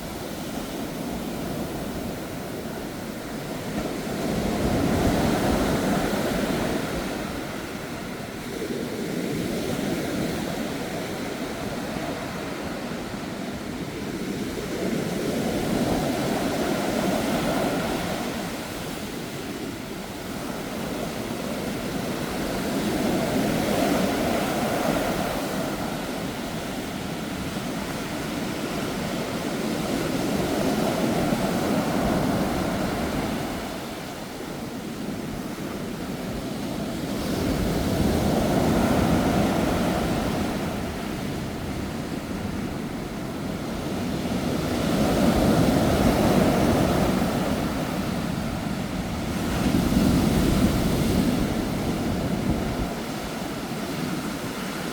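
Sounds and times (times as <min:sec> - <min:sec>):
sea waves breaking on shore: 0:00.0 - 0:54.9
strong wind: 0:00.0 - 0:54.9.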